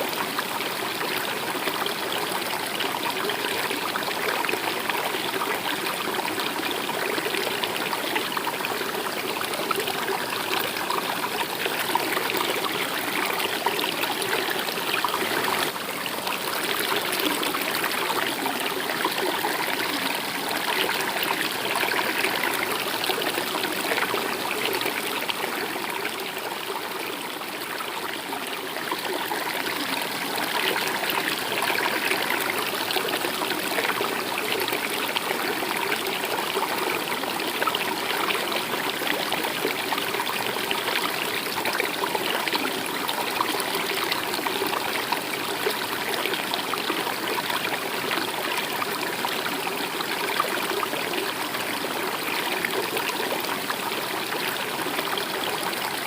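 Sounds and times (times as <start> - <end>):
river stream running: 0.0 - 56.0.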